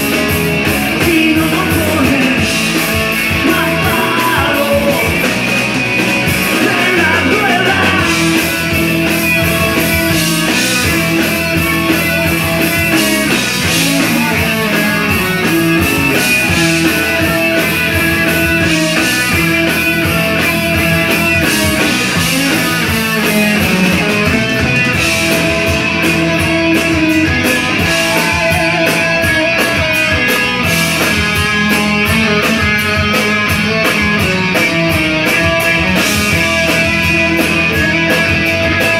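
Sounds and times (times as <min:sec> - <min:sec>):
bass guitar: 0:00.0 - 0:38.9
drums: 0:00.0 - 0:38.9
electric guitars: 0:00.0 - 0:38.9.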